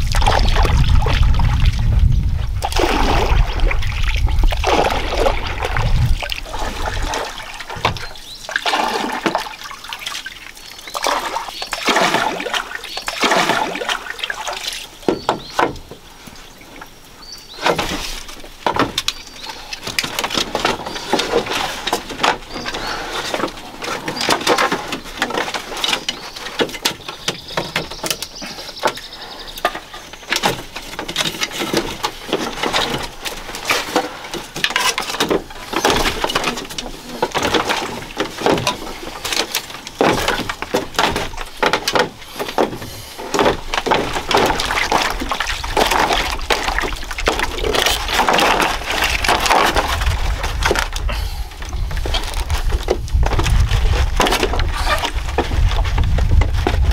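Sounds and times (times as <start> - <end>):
paddle splashing in water: 0.0 - 56.9.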